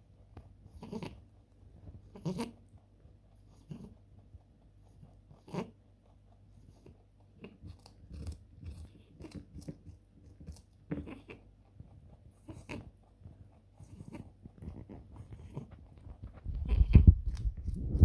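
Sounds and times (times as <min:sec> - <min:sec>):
rabbit chewing a carrot: 0:00.0 - 0:18.0.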